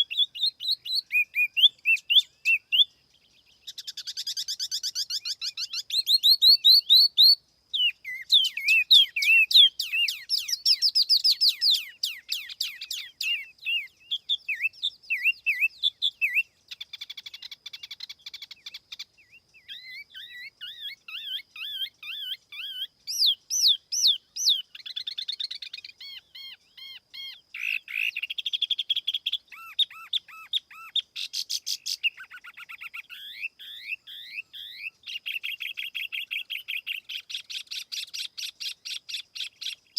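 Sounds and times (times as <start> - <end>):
songbird singing whistled notes: 0.0 - 39.9.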